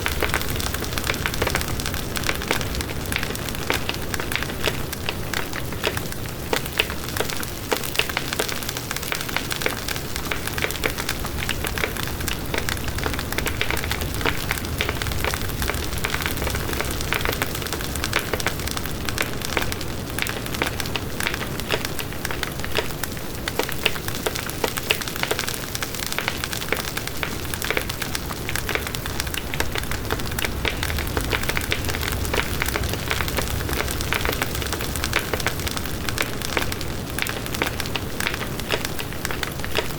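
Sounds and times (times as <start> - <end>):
firewood crackling and hissing: 0.0 - 39.9.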